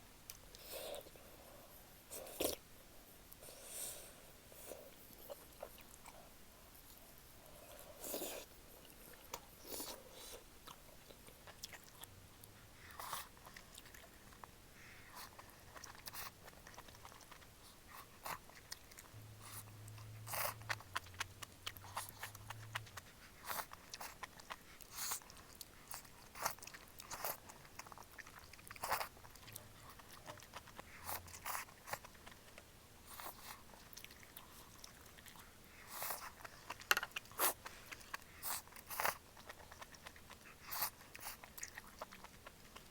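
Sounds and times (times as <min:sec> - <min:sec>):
person chewing crunchy food: 0:06.9 - 0:42.9.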